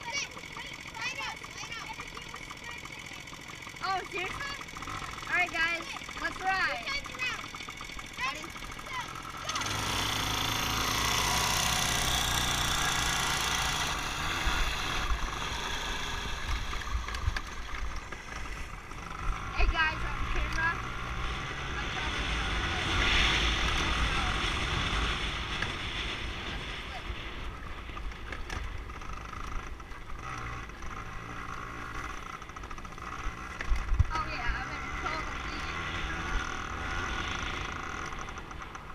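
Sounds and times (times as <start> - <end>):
dirt bike engine: 0.0 - 38.9.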